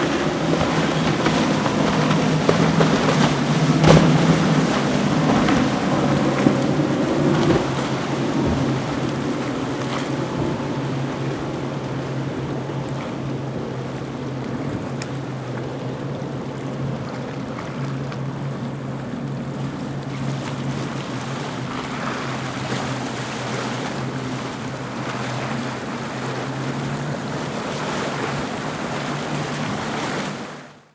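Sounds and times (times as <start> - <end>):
boat engine drone: 0.0 - 30.9
hull washing through waves: 0.0 - 30.9.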